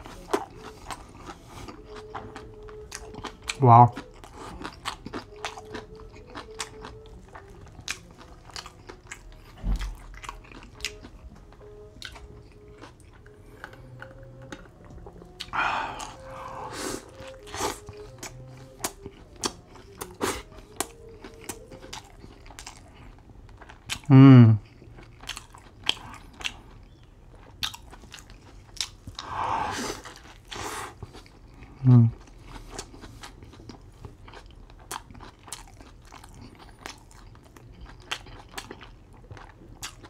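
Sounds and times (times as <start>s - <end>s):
wet chewing: 0.0s - 40.0s.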